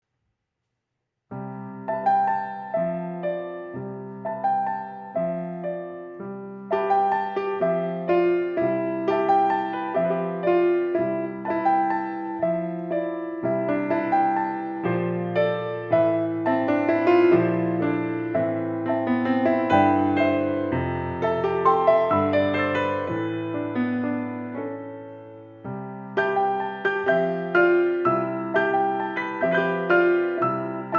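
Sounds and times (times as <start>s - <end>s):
piano bass line: 1.3s - 30.9s
piano duet: 1.3s - 30.9s.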